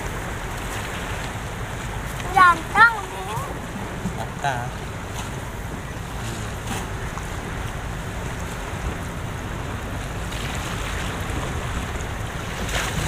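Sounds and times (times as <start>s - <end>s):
sea water washing against pier: 0.0s - 13.0s
wind buffeting microphone: 0.0s - 13.0s.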